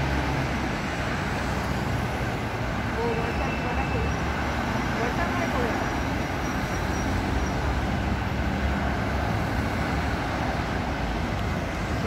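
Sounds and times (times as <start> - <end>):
cars passing on busy road: 0.0 - 12.0.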